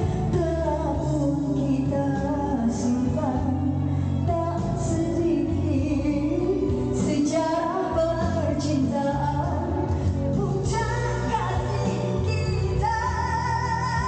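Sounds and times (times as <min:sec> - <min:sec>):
pop backing track: 0:00.0 - 0:14.0
woman singing into microphone: 0:00.0 - 0:14.0.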